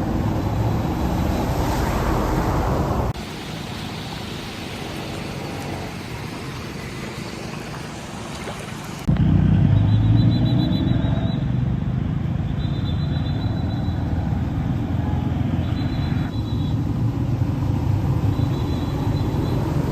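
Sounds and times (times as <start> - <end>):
low rumble of vehicle traffic: 0.0 - 19.9.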